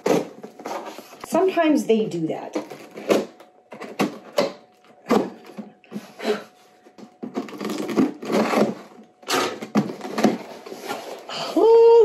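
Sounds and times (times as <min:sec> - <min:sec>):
cardboard rustling: 0:00.0 - 0:01.6, 0:02.5 - 0:11.4.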